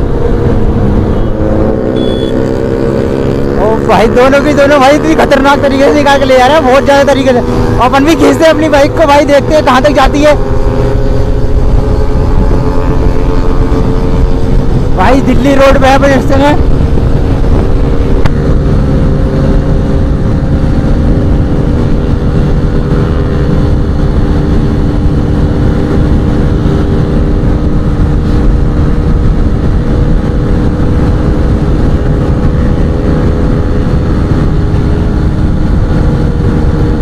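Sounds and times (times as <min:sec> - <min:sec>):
motorcycle engine running hard: 0:00.0 - 0:37.0
wind rush on microphone: 0:00.0 - 0:37.0.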